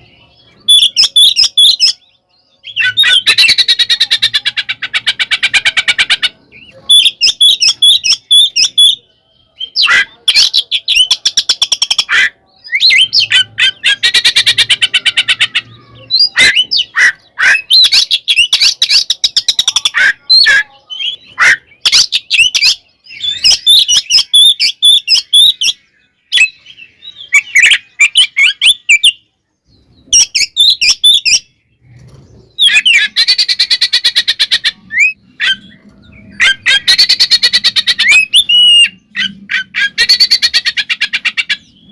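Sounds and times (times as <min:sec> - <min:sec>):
songbird singing varied phrases: 0:00.0 - 0:41.9.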